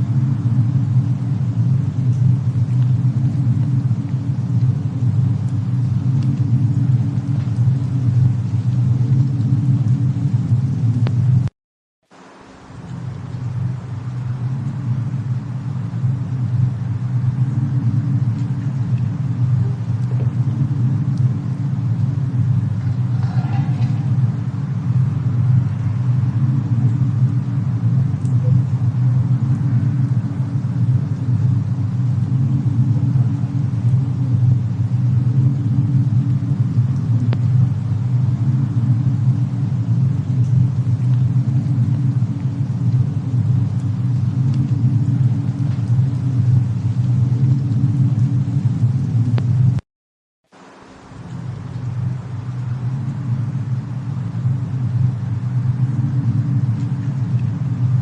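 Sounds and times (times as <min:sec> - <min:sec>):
snowstorm low rumble: 0:00.0 - 0:11.5, 0:12.1 - 0:49.8, 0:50.5 - 0:58.0
faint fire crackles: 0:00.0 - 0:49.8, 0:50.5 - 0:58.0.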